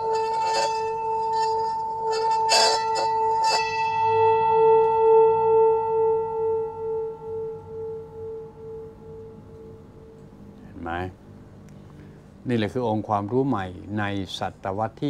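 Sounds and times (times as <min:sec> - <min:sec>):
singing bowl humming: 0:00.0 - 0:14.5.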